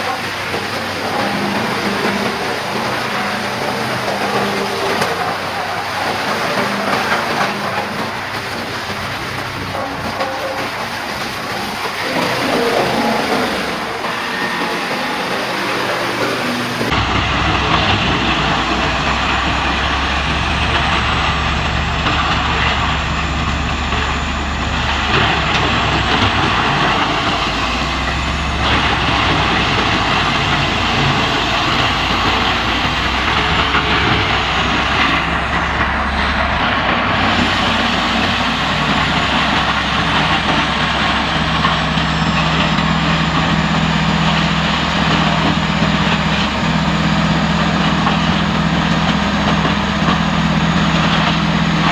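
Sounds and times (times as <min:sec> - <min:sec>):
wood chipper engine drone: 0:00.0 - 0:51.9
wood chipper grinding: 0:00.0 - 0:51.9.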